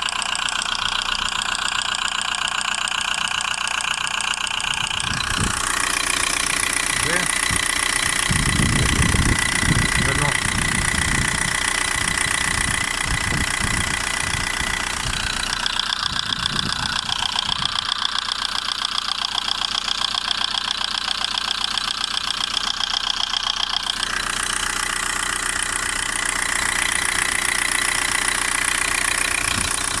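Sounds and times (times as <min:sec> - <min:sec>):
diesel engine idling: 0:00.0 - 0:30.0
engine ticking: 0:00.0 - 0:30.0.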